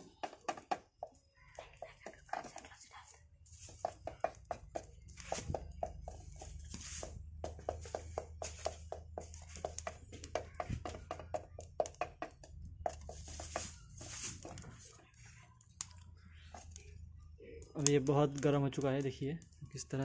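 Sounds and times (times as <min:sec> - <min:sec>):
straw fire crackling and popping: 0:00.0 - 0:20.0.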